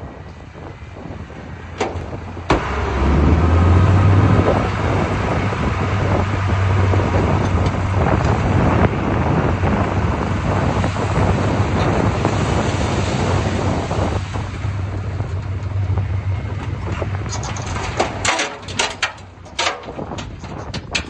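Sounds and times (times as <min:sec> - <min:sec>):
diesel earthmoving machine running: 0:00.0 - 0:21.0.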